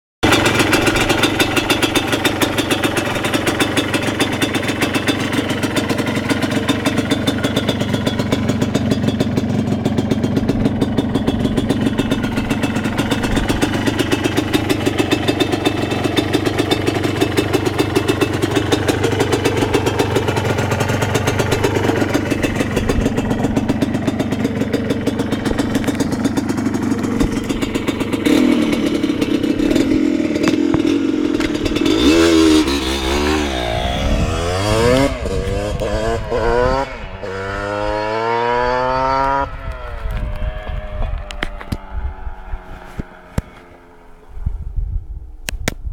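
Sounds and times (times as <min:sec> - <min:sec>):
two-stroke engine idling: 0:00.2 - 0:44.4.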